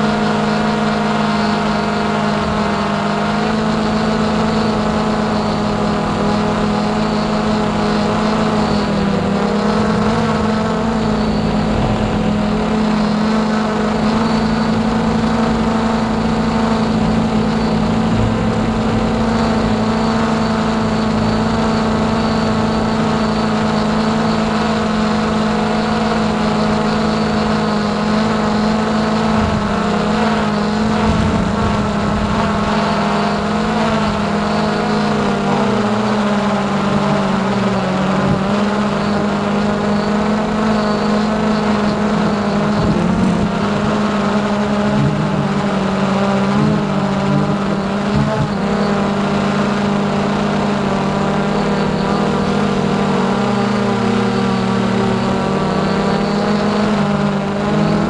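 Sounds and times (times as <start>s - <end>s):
quadcopter motors whining: 0.0s - 58.0s.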